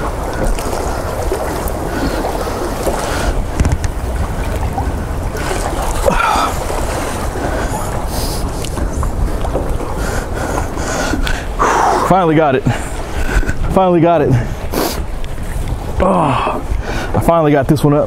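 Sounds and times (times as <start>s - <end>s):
water rushing: 0.0s - 18.0s
wind buffeting microphone: 0.0s - 18.0s.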